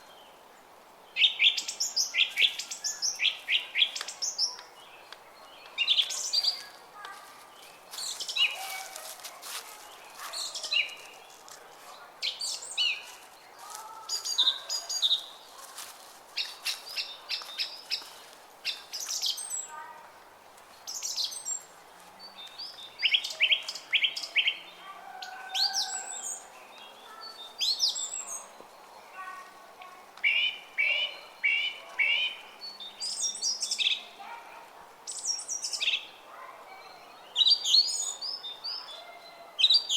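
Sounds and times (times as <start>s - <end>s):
songbirds chirping and singing: 0.0s - 19.9s, 20.7s - 39.9s.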